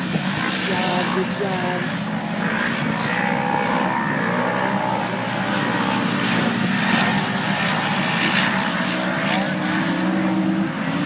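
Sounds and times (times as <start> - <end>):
race vehicle engine running hard: 0.0 - 11.0.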